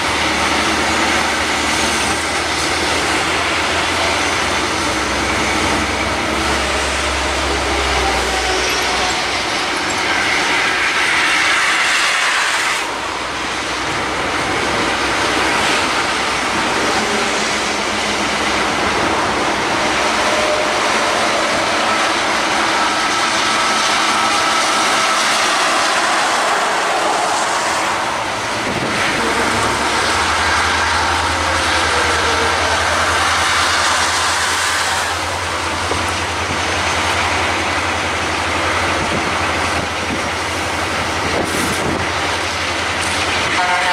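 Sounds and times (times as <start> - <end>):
trucks driving on highway: 0.0 - 43.9.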